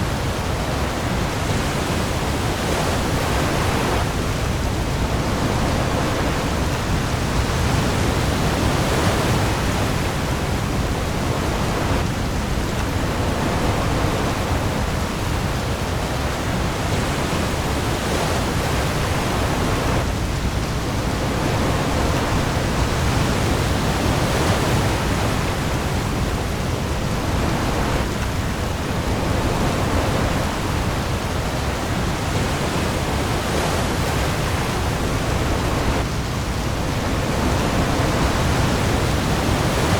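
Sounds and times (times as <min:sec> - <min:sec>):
heavy rain on the sea: 0:00.0 - 0:39.9
waves: 0:00.0 - 0:39.9.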